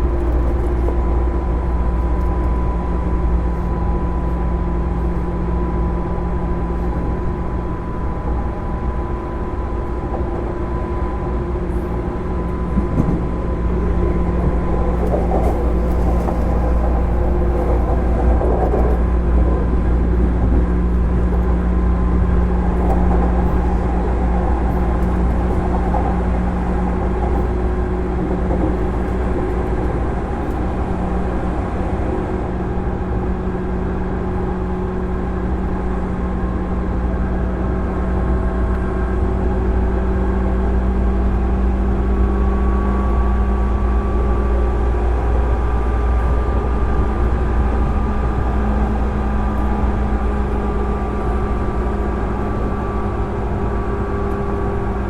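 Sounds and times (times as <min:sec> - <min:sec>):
train traction motors humming: 0:00.0 - 0:55.0
wheels rumbling on rail: 0:00.0 - 0:55.0.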